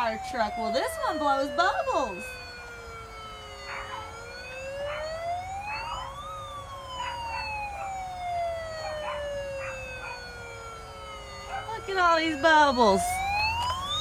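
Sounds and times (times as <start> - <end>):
toy electronic siren wailing: 0.0 - 14.0.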